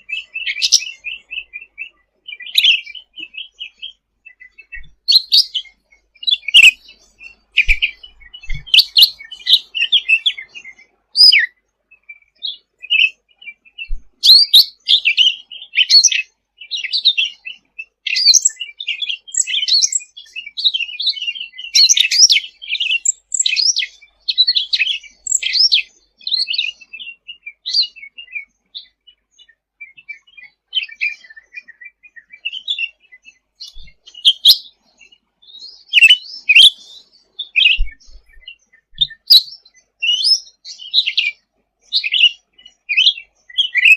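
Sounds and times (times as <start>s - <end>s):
songbird singing rapid chirps: 0.0s - 43.9s.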